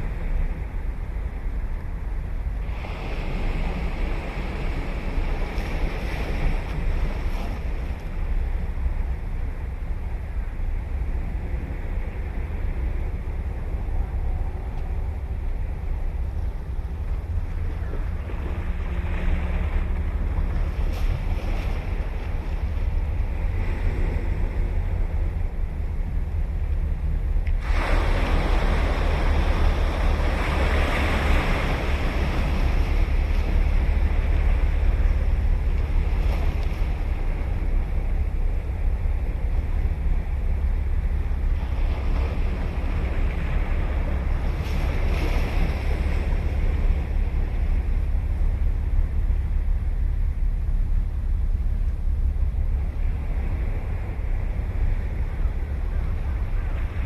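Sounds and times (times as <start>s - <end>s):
ocean waves crashing: 0.0s - 57.0s
wind on microphone: 0.0s - 57.0s.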